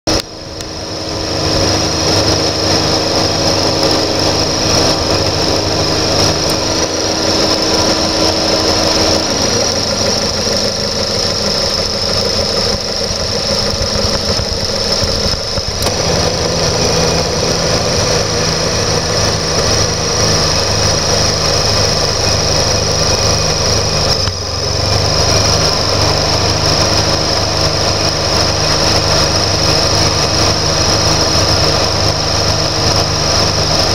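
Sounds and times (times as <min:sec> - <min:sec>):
car engine idling with whine: 0:00.1 - 0:33.9.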